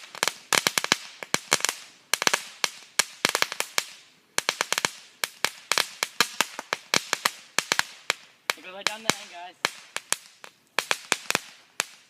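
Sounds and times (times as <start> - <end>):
firework cracks and pops: 0.0 - 12.0.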